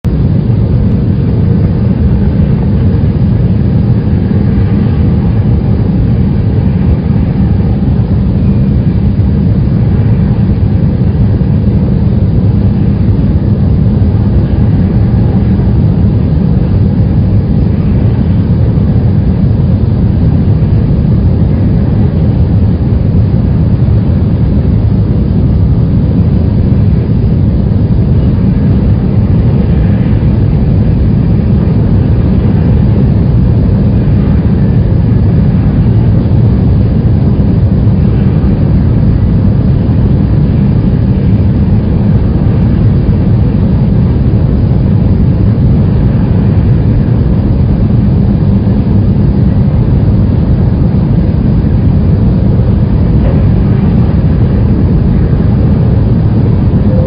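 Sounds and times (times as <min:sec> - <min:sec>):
deep rumbling drone: 0:00.0 - 0:57.0.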